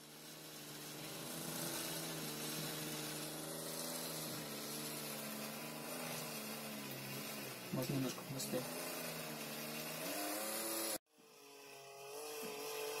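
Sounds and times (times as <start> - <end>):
cordless drill motor running: 0.0 - 13.0.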